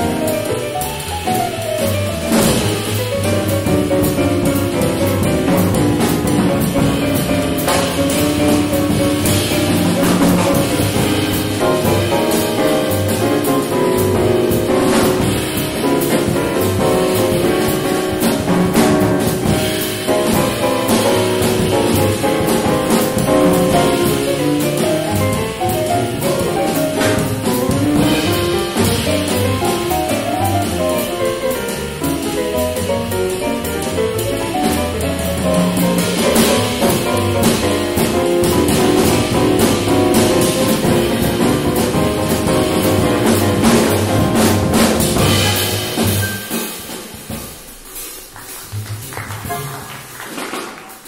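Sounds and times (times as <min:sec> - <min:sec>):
plucked double bass: 0:00.0 - 0:46.3, 0:48.4 - 0:50.1
keyboard playing piano lead: 0:00.0 - 0:46.8
drum kit: 0:00.0 - 0:51.0.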